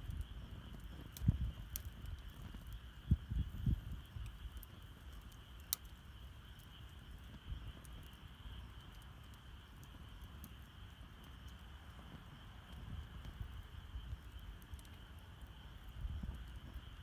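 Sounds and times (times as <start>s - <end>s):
campfire crackling: 0.0s - 17.0s
night insects chirring: 0.0s - 17.0s.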